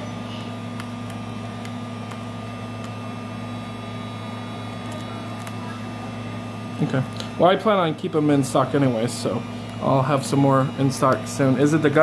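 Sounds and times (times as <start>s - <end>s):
faint high whine: 0.0s - 12.0s
low machine hum: 0.0s - 12.0s.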